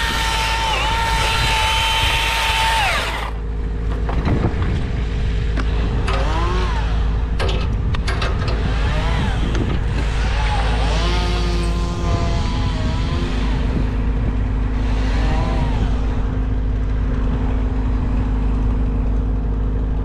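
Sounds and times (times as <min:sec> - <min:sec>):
chainsaw engine revving and idling: 0:00.0 - 0:03.5, 0:05.6 - 0:07.4, 0:08.6 - 0:20.0.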